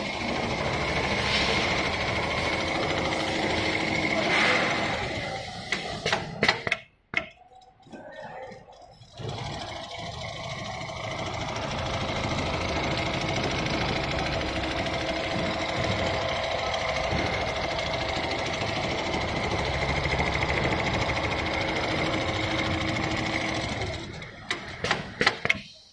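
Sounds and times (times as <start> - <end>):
sewing machine stitching: 0.0 - 6.7, 7.8 - 25.5.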